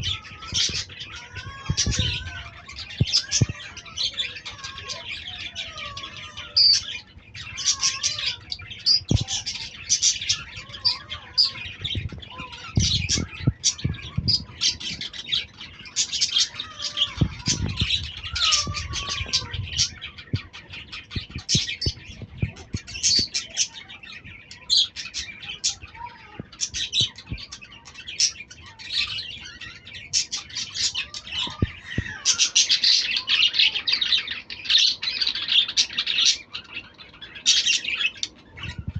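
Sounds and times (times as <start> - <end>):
bird squawks: 0.0 - 38.9
lovebirds chirping: 0.0 - 38.9.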